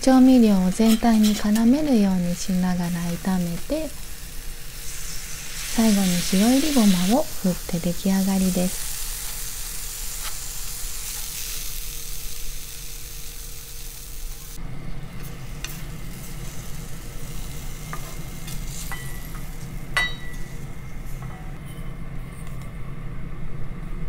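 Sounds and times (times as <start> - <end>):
vegetables sizzling in a pan: 0.1 - 21.2.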